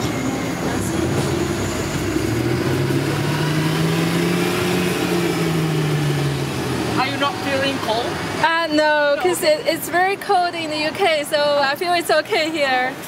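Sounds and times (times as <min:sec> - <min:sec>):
bus engine humming: 0:00.0 - 0:13.0
street traffic hiss: 0:00.0 - 0:13.0.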